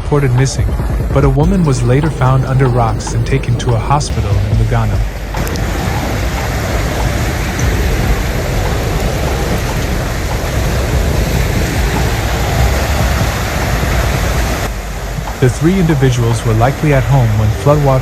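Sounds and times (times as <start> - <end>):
flood water rushing: 1.4 - 4.3, 5.2 - 18.0.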